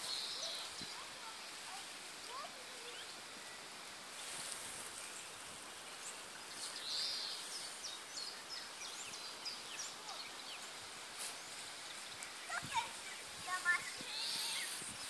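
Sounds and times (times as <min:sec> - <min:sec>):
small birds singing: 0:00.0 - 0:15.0
steady background hiss: 0:00.0 - 0:15.0.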